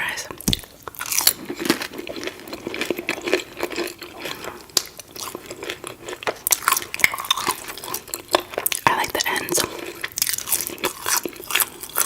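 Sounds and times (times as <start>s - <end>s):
chewing with crunches: 0.3s - 12.0s.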